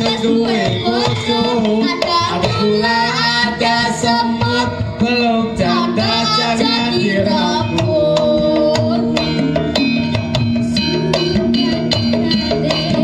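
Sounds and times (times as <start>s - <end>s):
girl singing: 0.0s - 9.2s, 11.3s - 13.0s
gamelan ensemble playing: 0.0s - 13.0s.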